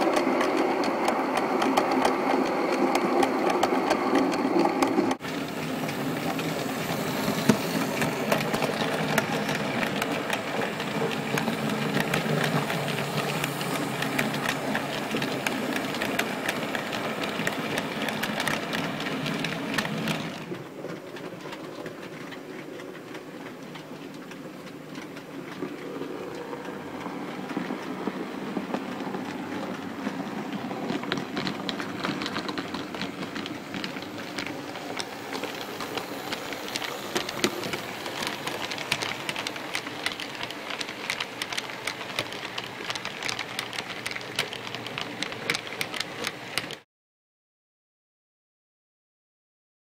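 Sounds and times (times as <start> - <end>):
model train motor whir: 0.0 - 20.5, 27.0 - 46.8
wheels clicking over rail joints: 0.0 - 46.8.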